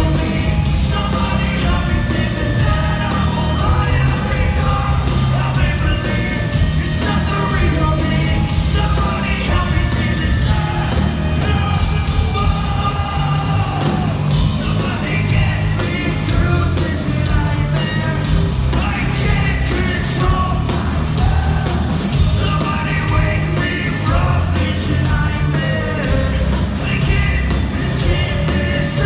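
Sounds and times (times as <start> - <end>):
heavy drums: 0.0 - 29.0
person singing: 0.0 - 29.0
rock band playing live: 0.0 - 29.0.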